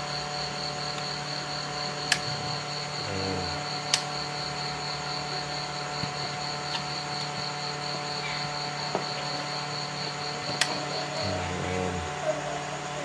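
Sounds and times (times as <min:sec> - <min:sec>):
faint pulsing high whine: 0:00.0 - 0:13.0
low electrical hum: 0:00.0 - 0:13.0.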